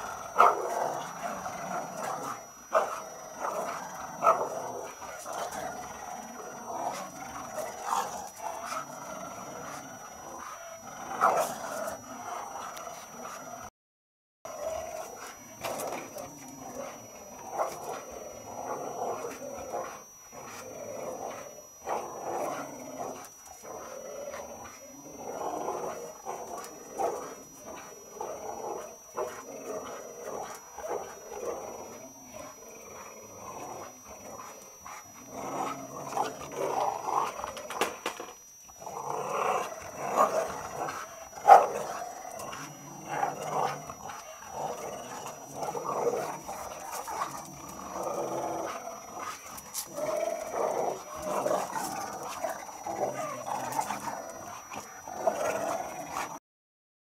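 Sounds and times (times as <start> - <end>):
dogs growling in play: 0.0 - 13.7, 14.5 - 56.4.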